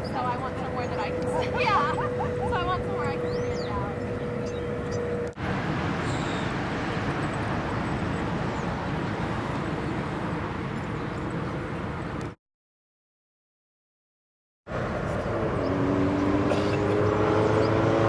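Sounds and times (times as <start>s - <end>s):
traffic: 0.0s - 12.4s, 14.7s - 18.0s
wind: 0.0s - 12.4s, 14.7s - 18.0s.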